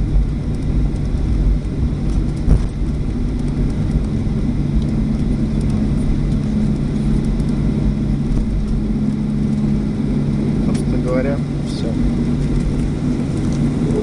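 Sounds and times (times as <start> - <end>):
airliner rolling on runway: 0.0 - 14.0.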